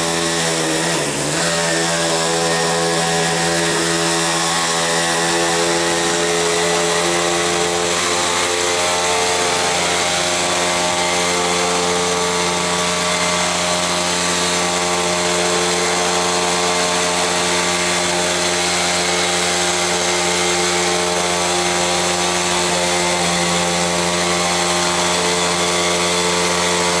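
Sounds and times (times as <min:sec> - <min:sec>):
model engine running at high speed: 0:00.0 - 0:27.0.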